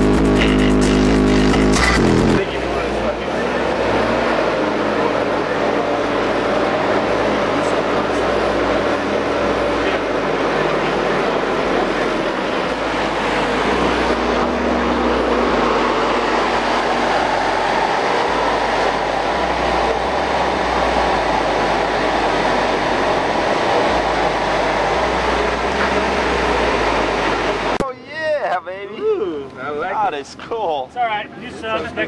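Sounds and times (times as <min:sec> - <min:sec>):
loud deep subwoofer bass: 0:00.0 - 0:04.6, 0:05.2 - 0:27.8
dense noisy wash: 0:00.0 - 0:28.9.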